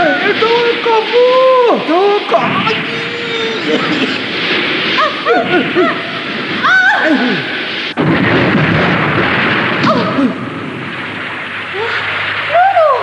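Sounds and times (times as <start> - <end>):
deep rumble: 0.0 - 13.0
loud steady rushing noise: 0.0 - 13.0.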